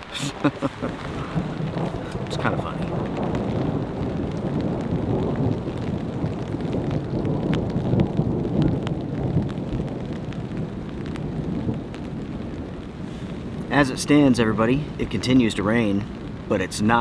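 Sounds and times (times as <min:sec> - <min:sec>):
light rain ticking on a tarp: 0:00.0 - 0:17.0
steady low rumble: 0:00.0 - 0:17.0.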